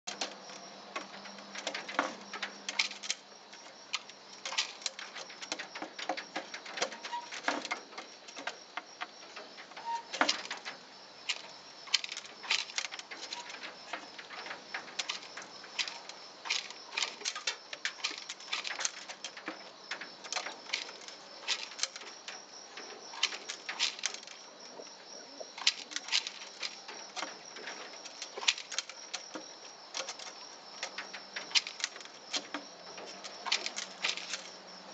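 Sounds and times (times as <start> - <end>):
seeds rattling: 0.1 - 8.6, 9.3 - 34.9
pigeon pecking on plastic and concrete: 0.1 - 34.9.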